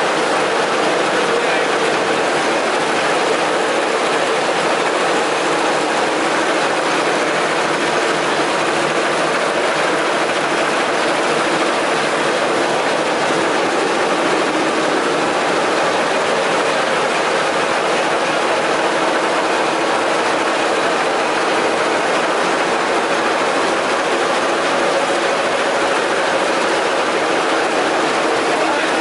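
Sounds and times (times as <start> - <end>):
cotton gin machinery clatter: 0.0 - 29.0.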